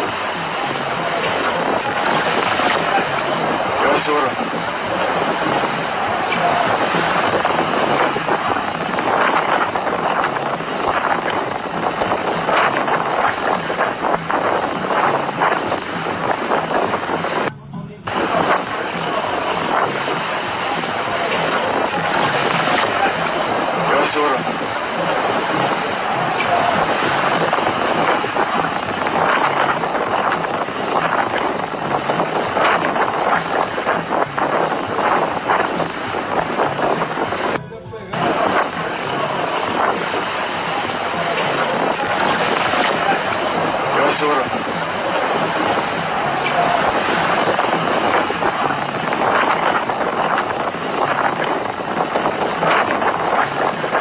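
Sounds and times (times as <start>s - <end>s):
strong wind gusting: 0.0s - 54.0s.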